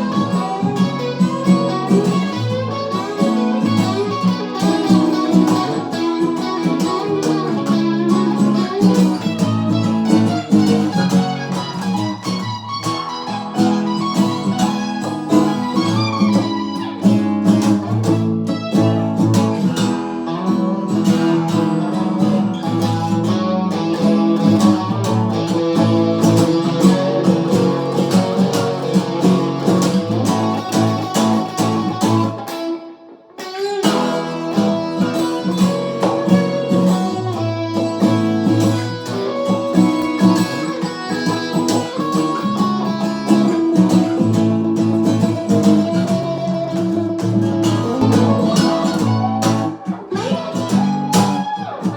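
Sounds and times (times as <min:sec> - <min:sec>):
guitar plucked and strummed: 0:00.0 - 0:51.9.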